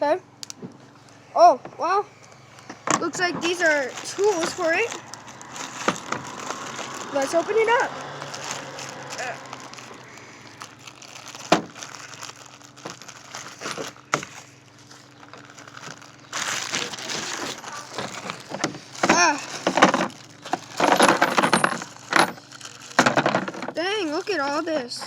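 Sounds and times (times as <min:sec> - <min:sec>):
plastic wrapping crinkling: 0:02.1 - 0:24.8.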